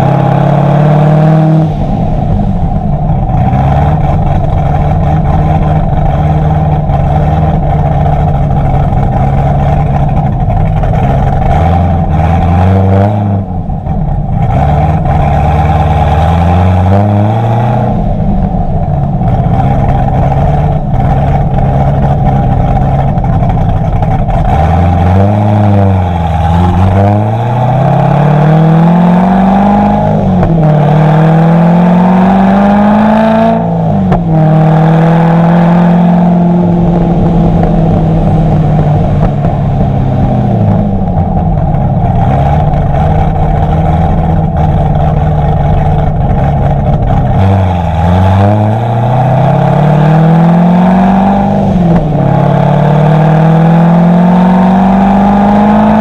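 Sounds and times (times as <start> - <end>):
deep car exhaust note: 0.0 - 56.0.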